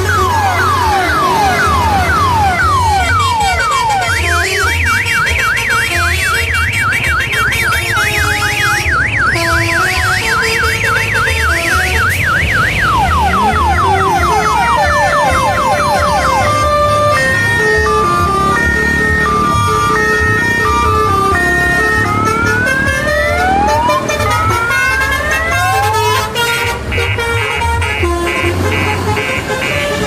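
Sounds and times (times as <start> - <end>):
electronic siren horn: 0.0 - 30.0.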